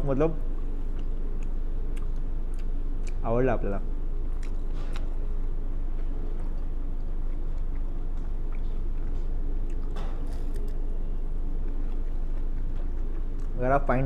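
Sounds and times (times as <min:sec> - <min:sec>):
steady low hum: 0:00.0 - 0:14.0
person chewing crisp bread: 0:00.4 - 0:03.2, 0:04.1 - 0:13.6.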